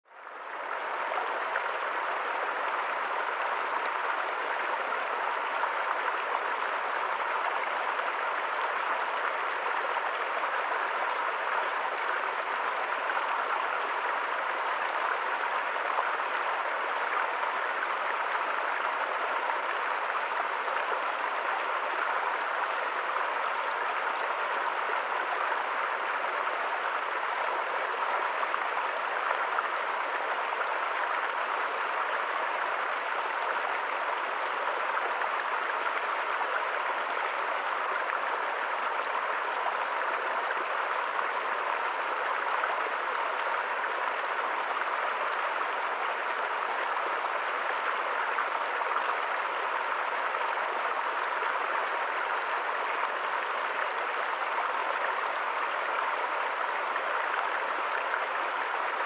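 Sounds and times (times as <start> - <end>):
stream rushing over cascades: 0.1 - 59.0.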